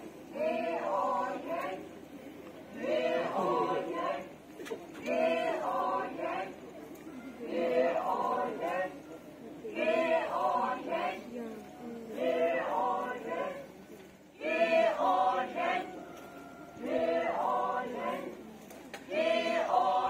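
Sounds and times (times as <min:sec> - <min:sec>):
children chanting a folk song: 0:00.0 - 0:01.9, 0:02.7 - 0:04.3, 0:05.0 - 0:06.7, 0:07.4 - 0:13.8, 0:14.4 - 0:16.2, 0:16.8 - 0:20.0.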